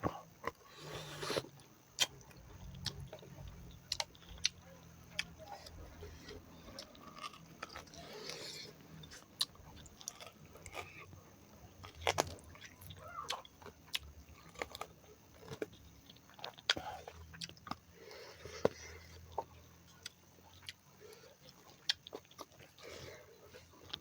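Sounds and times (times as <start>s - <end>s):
person chewing and biting: 0.0s - 11.1s, 11.8s - 20.8s, 21.4s - 22.9s.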